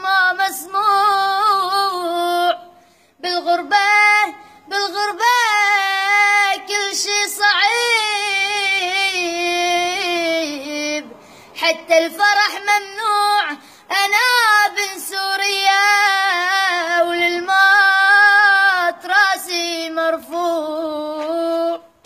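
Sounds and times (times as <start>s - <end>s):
boy singing unaccompanied: 0.0s - 22.0s.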